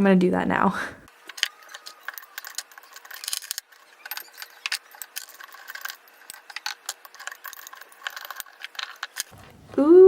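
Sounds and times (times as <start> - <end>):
toy skeletons clicking against vase: 1.2 - 9.3.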